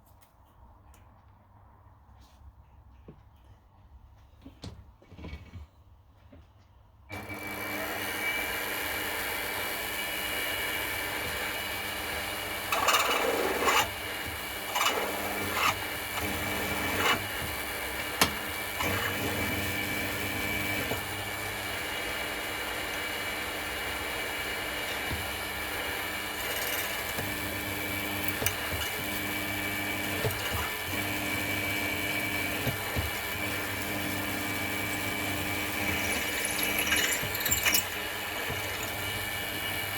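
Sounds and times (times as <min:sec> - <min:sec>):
milling machine motor humming: 0:07.1 - 0:39.9.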